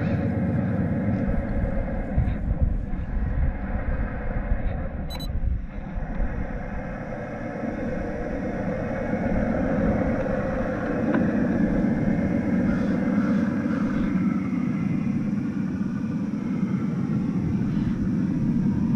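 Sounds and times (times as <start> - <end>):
electric motor and gears whirring: 1.0 - 18.9.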